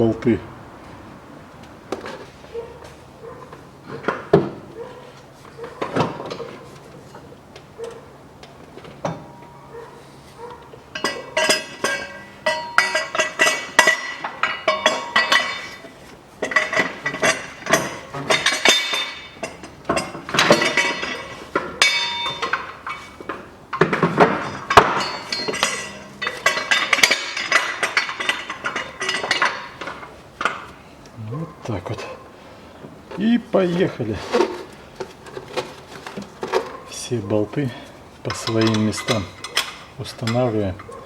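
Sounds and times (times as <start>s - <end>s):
hand tools clinking on metal: 2.0s - 32.2s, 33.1s - 41.0s.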